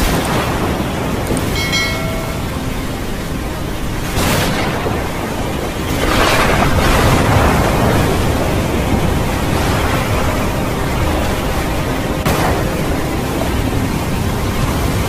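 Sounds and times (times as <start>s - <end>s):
heavy rain on a street: 0.0s - 15.0s
vehicles splashing through water: 0.0s - 15.0s.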